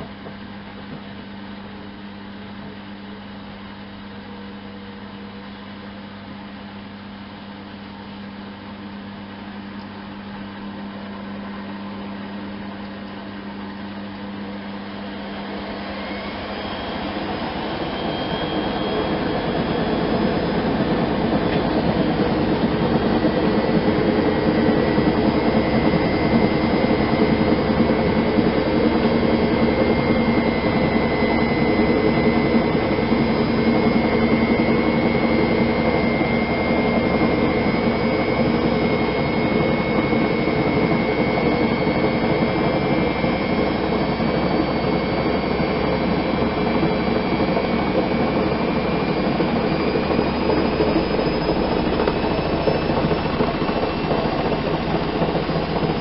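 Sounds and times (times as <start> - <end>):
washing machine spinning with whine: 0.0 - 56.0.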